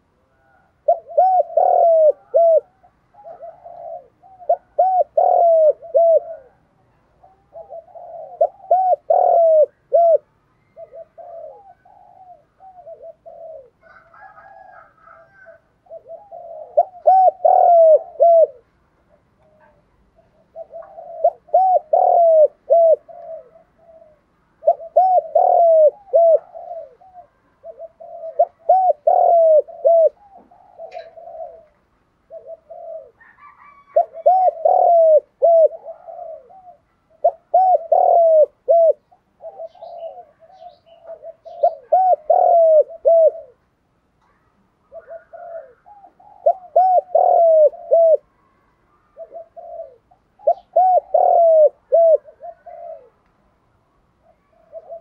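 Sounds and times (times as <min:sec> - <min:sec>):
dove cooing: 0:00.0 - 0:48.3, 0:48.9 - 0:53.2, 0:54.1 - 0:55.0.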